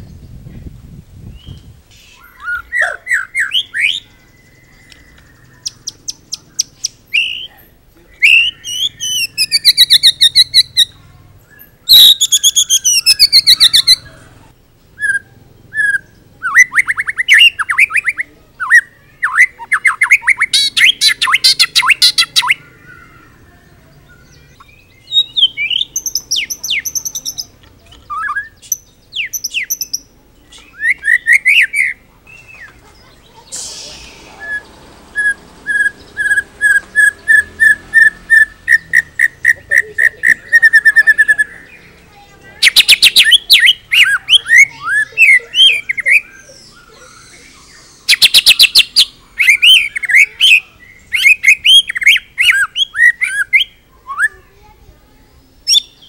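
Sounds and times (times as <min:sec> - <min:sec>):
songbird singing varied song: 0:00.0 - 0:56.0.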